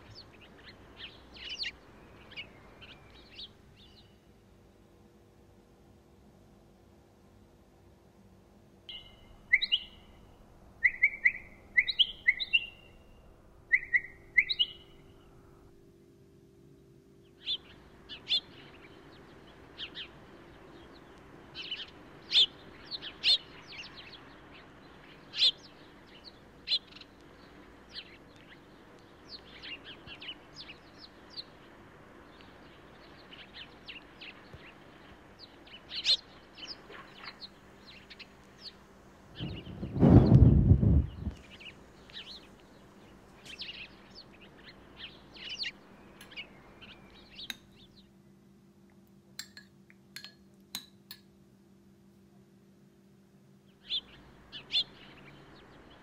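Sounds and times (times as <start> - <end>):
small birds chirping: 0.0 - 4.4, 8.9 - 15.6, 16.8 - 50.4, 53.5 - 56.0.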